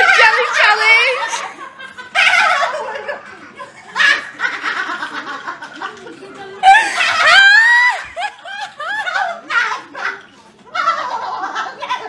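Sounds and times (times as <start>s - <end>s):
laughter with high-pitched squeal: 0.0s - 12.0s.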